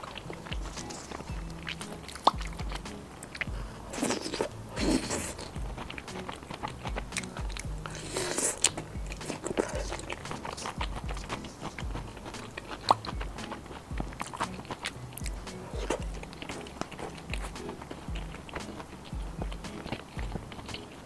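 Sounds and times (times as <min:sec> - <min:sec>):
faint background music with beat: 0:00.0 - 0:21.0
loud crunching of fried beans: 0:00.0 - 0:21.0
wet chewing clicks: 0:00.0 - 0:21.0.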